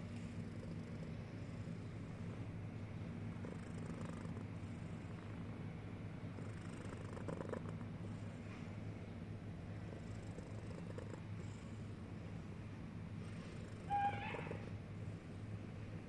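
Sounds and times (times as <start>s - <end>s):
faint breath hiss: 0.0s - 13.9s
cat purring: 0.0s - 16.0s.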